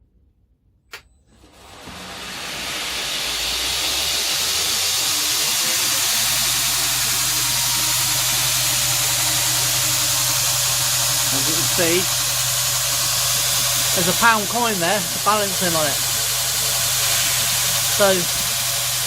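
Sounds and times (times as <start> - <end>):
belt grinder running: 1.4 - 19.0
loud belt hiss: 1.6 - 19.0
motor low hum: 1.6 - 19.0.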